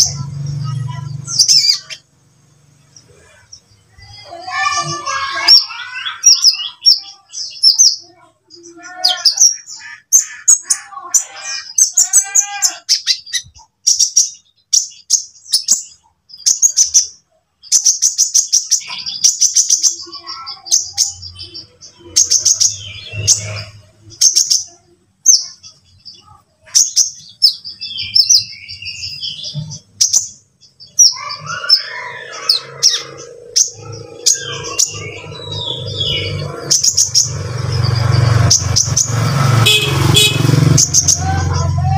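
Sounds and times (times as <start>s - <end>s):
bird chirping trills: 0.0s - 41.9s.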